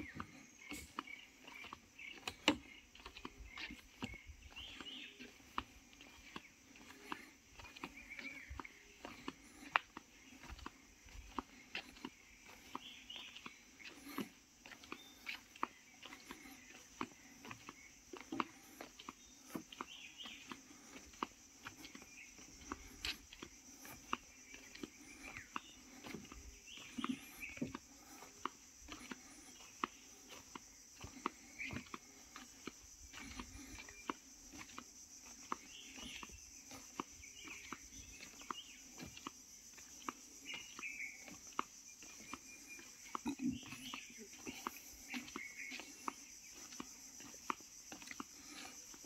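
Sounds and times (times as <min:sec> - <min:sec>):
insects droning: 0:00.0 - 0:49.0.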